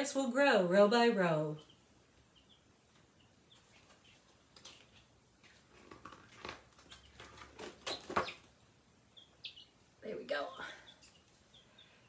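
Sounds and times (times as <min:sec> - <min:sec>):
baby chicks peeping: 0:01.4 - 0:12.0.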